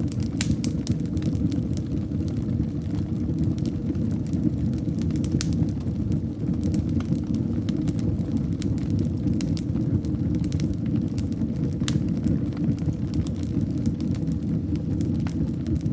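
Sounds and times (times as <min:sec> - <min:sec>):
fire crackling and popping: 0:00.0 - 0:15.9
low rumble of flames: 0:00.0 - 0:15.9.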